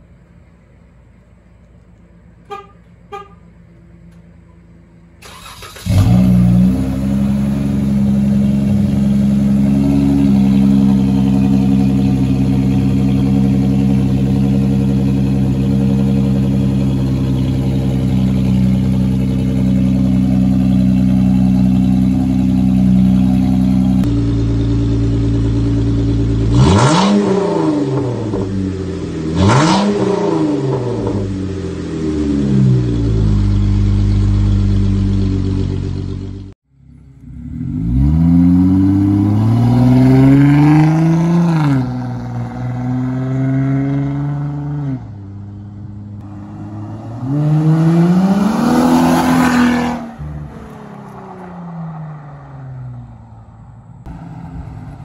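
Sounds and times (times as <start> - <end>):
car engine starting and idling: 0.0 - 55.0
engine revving: 5.2 - 55.0.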